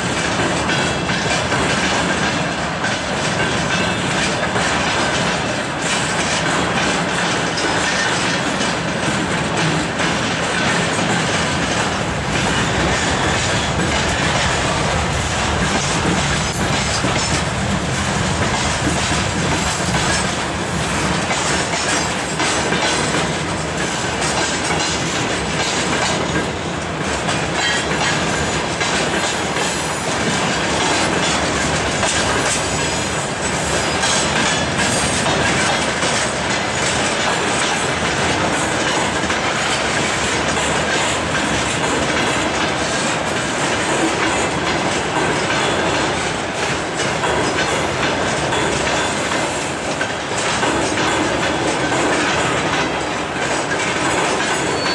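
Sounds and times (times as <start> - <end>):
train wheels clickety-clack: 0.0 - 54.9.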